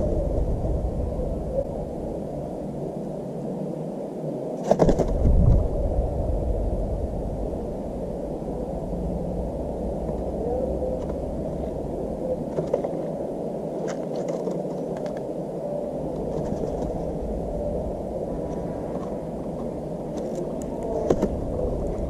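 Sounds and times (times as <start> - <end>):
muffled outdoor rumble: 0.0 - 22.0.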